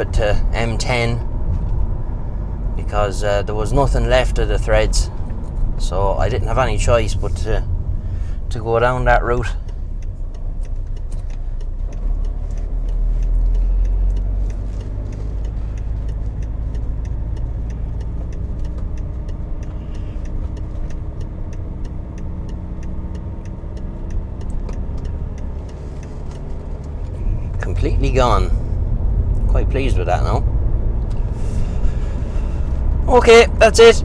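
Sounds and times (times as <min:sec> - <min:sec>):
light regular ticking: 0:00.0 - 0:34.0
road and engine rumble in car cabin: 0:00.0 - 0:34.0.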